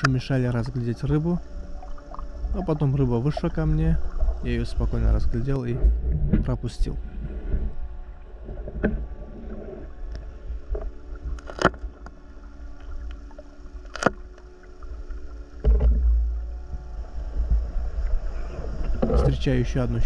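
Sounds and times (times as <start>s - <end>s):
low underwater rush: 0.0s - 20.0s
muffled underwater rumble: 0.0s - 20.0s.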